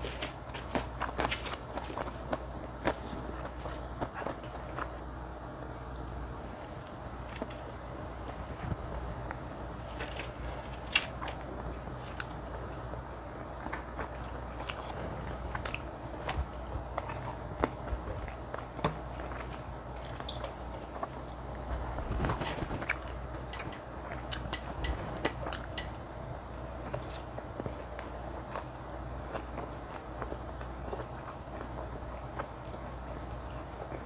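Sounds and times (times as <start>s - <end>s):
biting and chewing food: 0.0s - 34.0s
faint steady hum: 0.0s - 34.0s.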